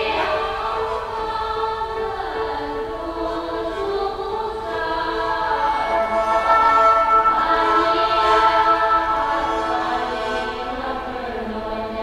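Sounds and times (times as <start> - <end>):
chamber music with electronics: 0.0 - 12.0.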